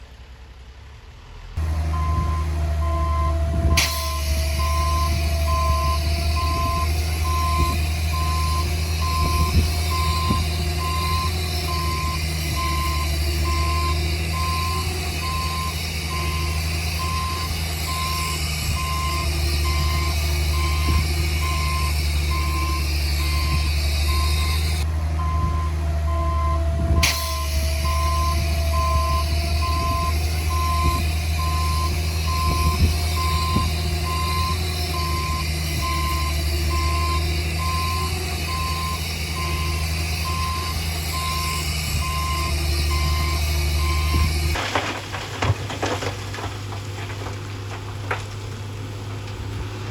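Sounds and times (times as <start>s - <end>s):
diesel engine rumble: 0.0s - 49.9s
back-up alarm beeping: 1.9s - 24.6s, 25.2s - 44.3s.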